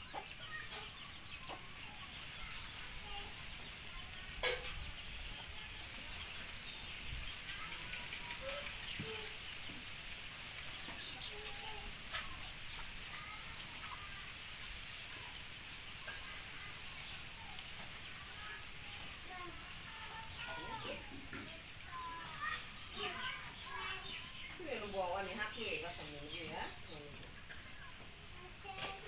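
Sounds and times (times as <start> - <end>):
chickens clucking: 0.0 - 29.0
faint steady hiss: 0.0 - 29.0.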